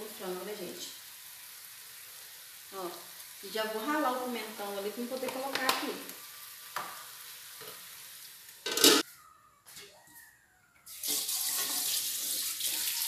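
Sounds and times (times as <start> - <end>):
chicken frying in a pan: 0.0 - 9.0, 10.9 - 13.0.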